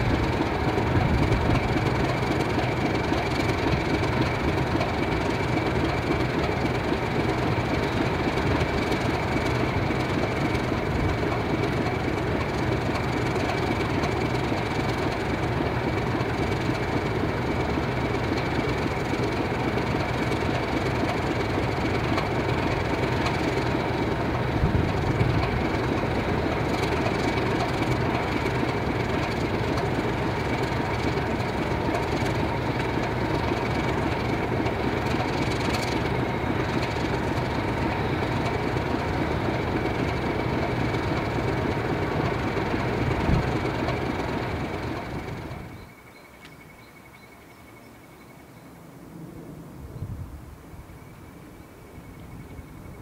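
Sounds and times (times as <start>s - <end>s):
diesel locomotive engine idling: 0.0s - 53.0s.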